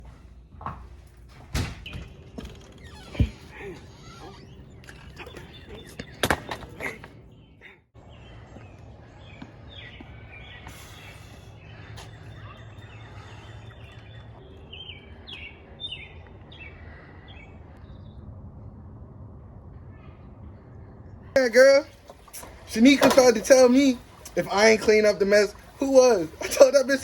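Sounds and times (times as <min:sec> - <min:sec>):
birds chirping: 0:01.5 - 0:27.0.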